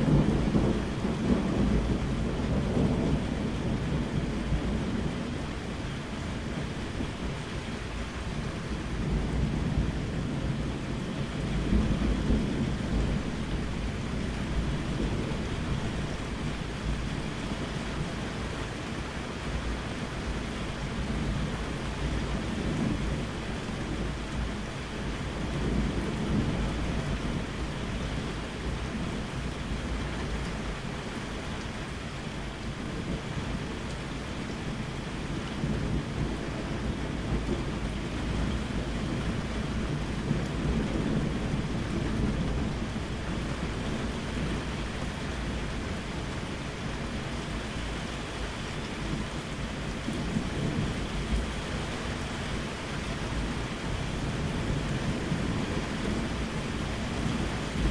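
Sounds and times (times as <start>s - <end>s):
rolling thunder: 0.0s - 18.6s, 20.2s - 30.0s, 35.3s - 48.0s, 48.8s - 57.9s
steady rain: 0.0s - 57.9s.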